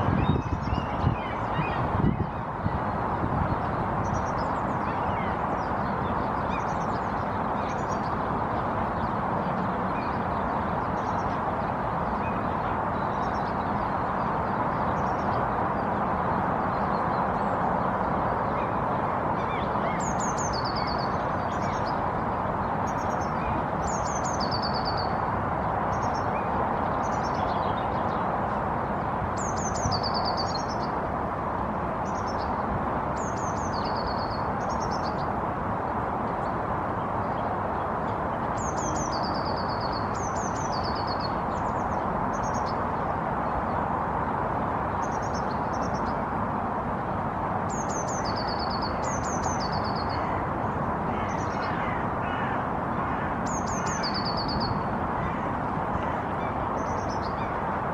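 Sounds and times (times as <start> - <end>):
songbird singing: 0.0 - 31.0, 31.9 - 43.9, 44.5 - 46.4, 47.6 - 57.9
steady background noise: 0.0 - 57.9.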